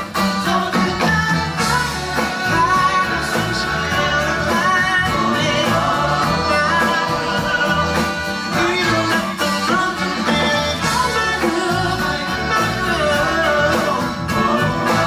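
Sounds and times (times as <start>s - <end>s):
backing band with bass: 0.0s - 15.0s
male vocal group singing: 0.2s - 15.0s.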